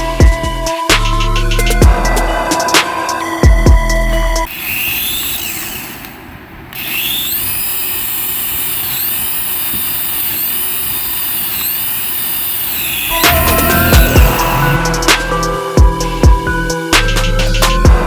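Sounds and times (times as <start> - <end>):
small electric motor whining: 2.5 - 17.4.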